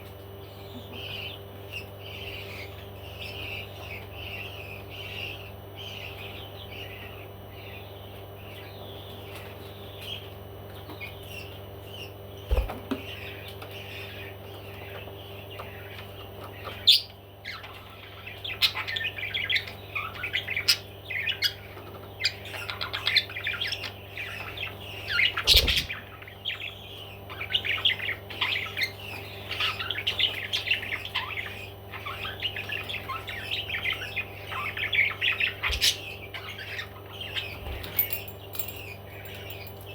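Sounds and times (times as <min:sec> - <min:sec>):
parrots chirping and chattering: 0:00.0 - 0:39.9
steady low hum: 0:00.0 - 0:39.9.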